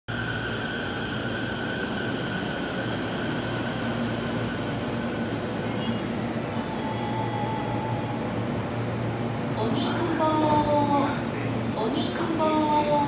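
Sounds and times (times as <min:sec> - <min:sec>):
electric train rumble: 0:00.1 - 0:13.0
train high whine: 0:00.1 - 0:13.0.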